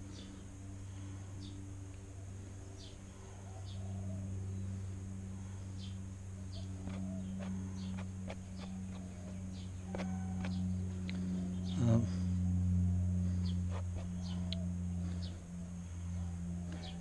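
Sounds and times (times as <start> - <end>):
birds chirping: 0.0 - 17.0
small pump humming: 0.0 - 17.0.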